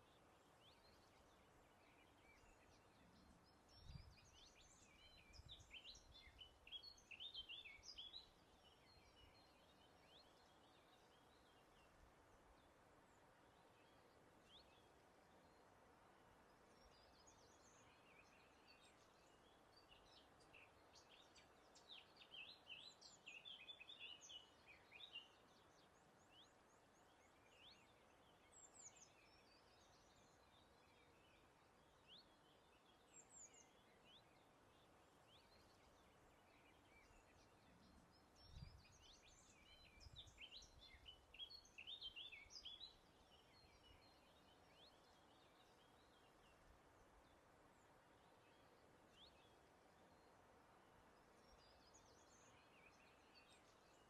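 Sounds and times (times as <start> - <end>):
faint birds twittering: 0.0 - 54.0
soft outdoor hiss: 0.0 - 54.0.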